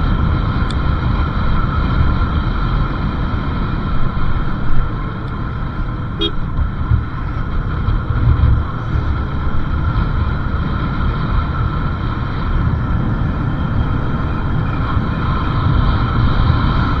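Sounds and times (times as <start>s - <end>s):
motorcycle engine: 0.0s - 17.0s
wind rumble on microphone: 0.0s - 17.0s.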